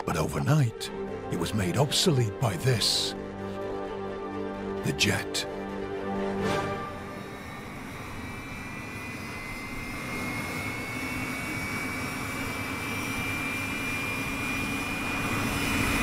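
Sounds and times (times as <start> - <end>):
jet engine roaring with whine: 0.0 - 16.0.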